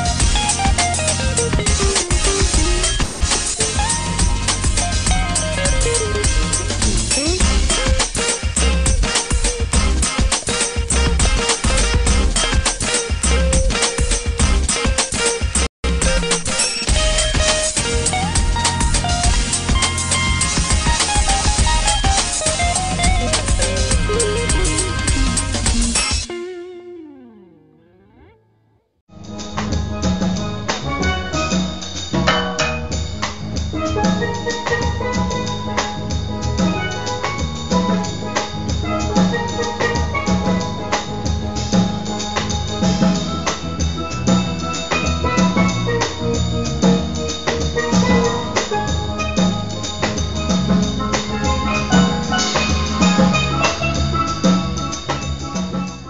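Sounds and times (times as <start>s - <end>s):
music with drum beat and melody: 0.0s - 28.2s, 29.2s - 56.0s.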